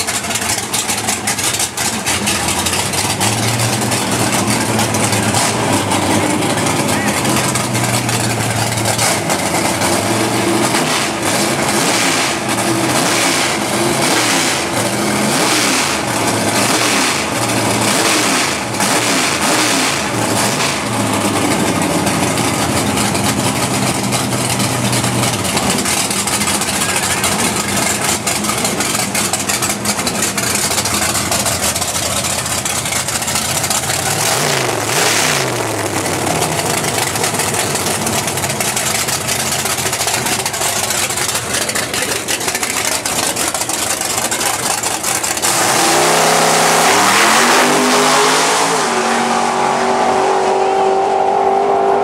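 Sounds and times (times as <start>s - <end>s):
race car engine revving: 0.0s - 52.0s.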